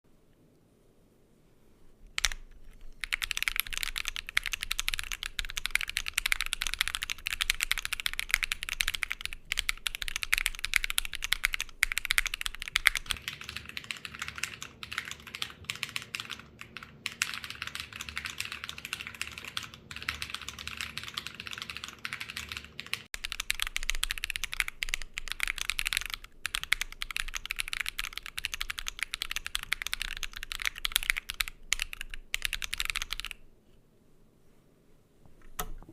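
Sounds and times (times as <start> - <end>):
fast typing on mechanical keyboard: 2.2 - 33.4.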